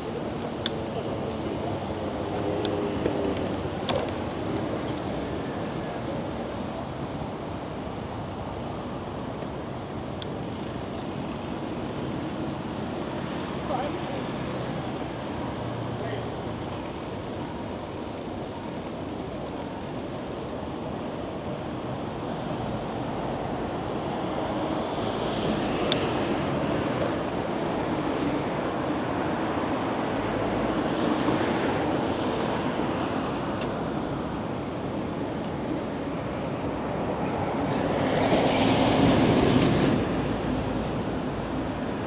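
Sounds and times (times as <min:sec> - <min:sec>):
city traffic rumble: 0:00.0 - 0:42.0.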